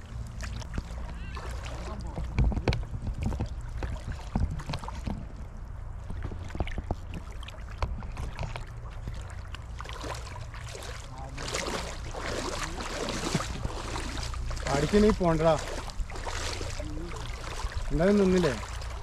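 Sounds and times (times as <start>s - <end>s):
water splashing around wading legs: 0.0s - 19.0s
wind rumble on microphone: 0.0s - 19.0s.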